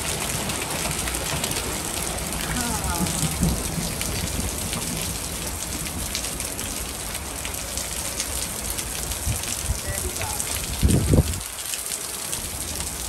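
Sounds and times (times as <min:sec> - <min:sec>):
hail and rain falling: 0:00.0 - 0:13.0.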